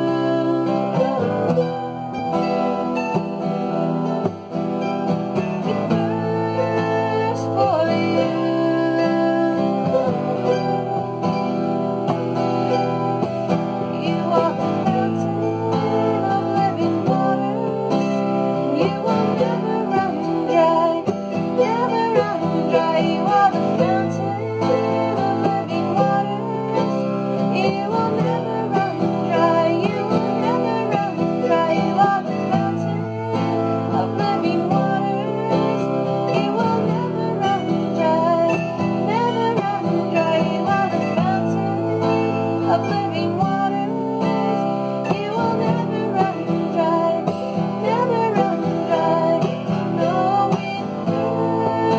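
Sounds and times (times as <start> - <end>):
acoustic guitar: 0.0 - 51.9
mandolin: 0.0 - 51.9.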